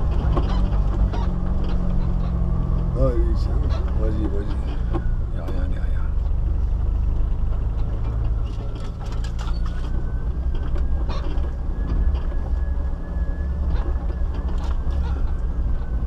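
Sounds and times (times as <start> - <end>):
knocks and rattles over bumps: 0.0 - 16.0
vehicle engine running low: 0.0 - 16.0.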